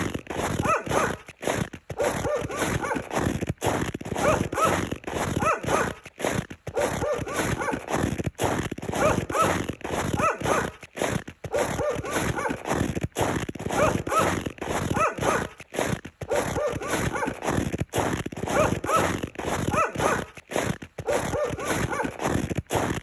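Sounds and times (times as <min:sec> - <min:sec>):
footsteps crunching in snow: 0:00.0 - 0:23.0.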